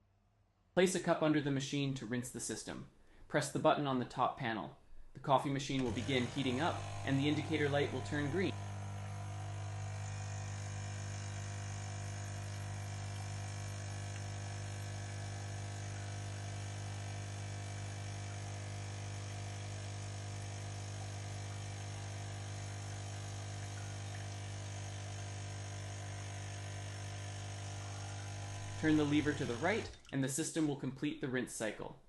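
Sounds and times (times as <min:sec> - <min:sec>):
low electrical hum: 0:04.7 - 0:30.9.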